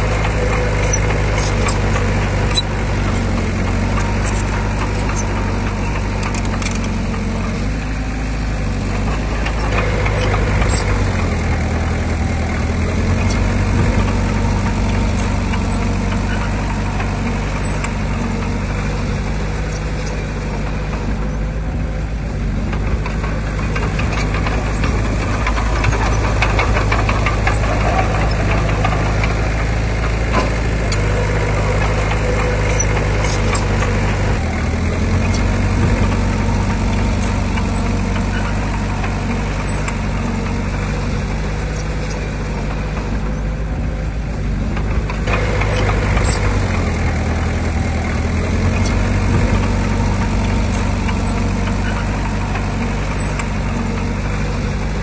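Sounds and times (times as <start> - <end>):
metallic clanks: 0.0 - 21.4, 22.7 - 43.5, 44.8 - 54.8
diesel engine under varying load: 0.0 - 55.0.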